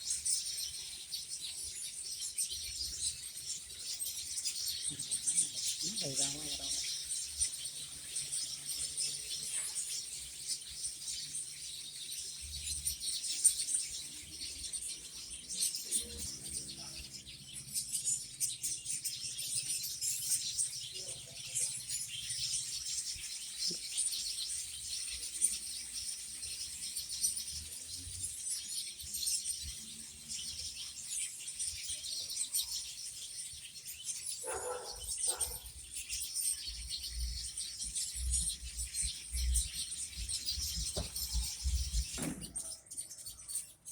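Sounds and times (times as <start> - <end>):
many small birds chirping: 0.0 - 43.9.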